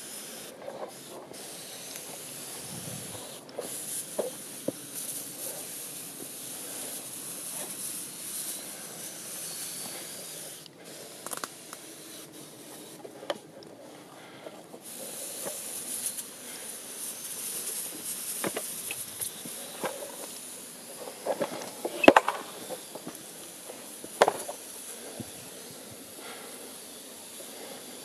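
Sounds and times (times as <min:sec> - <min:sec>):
sprayer hissing mist: 0:00.0 - 0:28.0.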